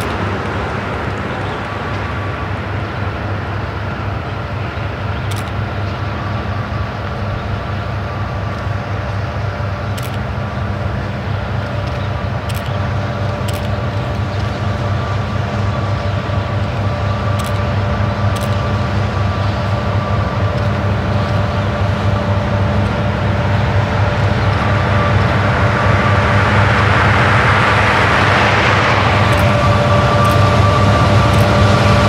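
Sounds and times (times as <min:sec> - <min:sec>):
diesel locomotive engine rumble: 0:00.0 - 0:32.0
train wheel and rail noise: 0:00.0 - 0:32.0.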